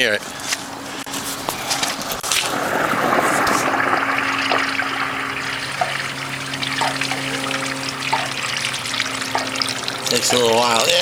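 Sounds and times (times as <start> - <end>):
water gushing from pipe: 1.2 - 11.0.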